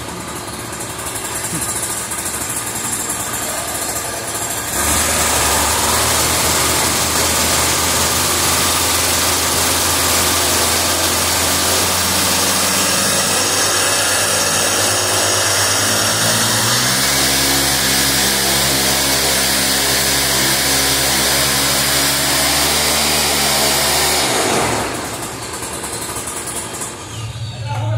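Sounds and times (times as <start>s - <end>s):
paramotor engine running: 0.0s - 27.9s.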